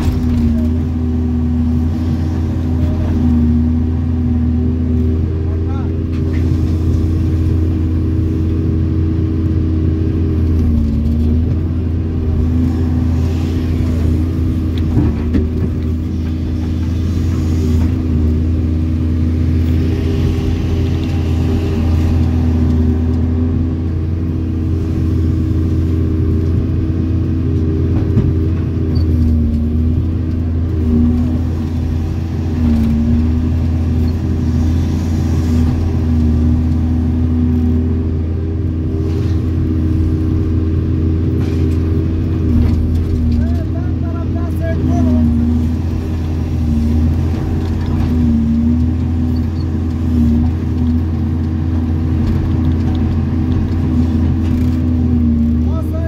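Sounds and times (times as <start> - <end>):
excavator engine and hydraulic pumps: 0.0 - 56.0.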